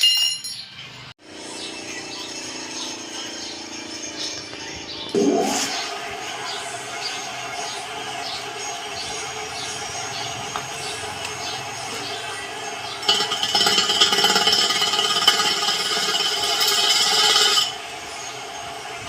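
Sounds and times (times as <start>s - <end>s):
workshop machinery hum: 0.7s - 19.0s.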